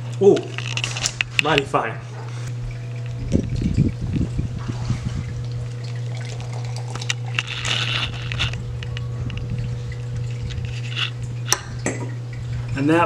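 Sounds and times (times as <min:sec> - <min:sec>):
steady low hum: 0:00.0 - 0:13.0
beer pouring and foaming: 0:00.3 - 0:13.0.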